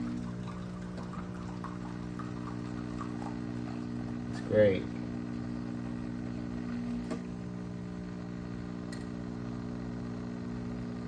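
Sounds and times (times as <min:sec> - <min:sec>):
espresso machine pump humming: 0:00.0 - 0:11.0.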